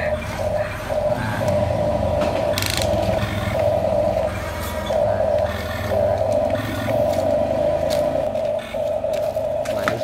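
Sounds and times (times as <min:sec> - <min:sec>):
toy electric motors whining: 0:00.0 - 0:10.0.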